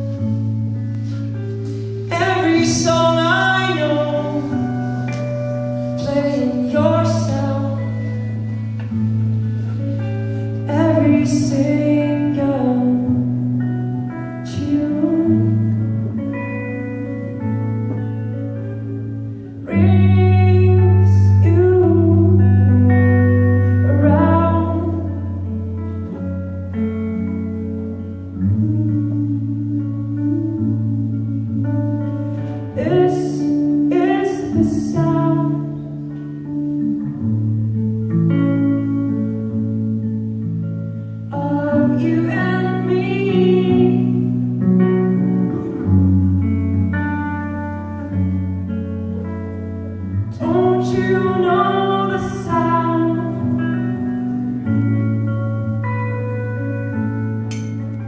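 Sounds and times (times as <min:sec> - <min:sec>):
deep held bass tone: 0:00.0 - 0:58.0
live band music with guitar: 0:00.0 - 0:58.0.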